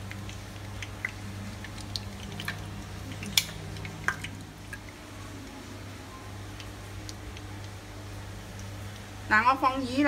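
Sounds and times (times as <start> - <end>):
oil popping and crackling: 0.0 - 9.9.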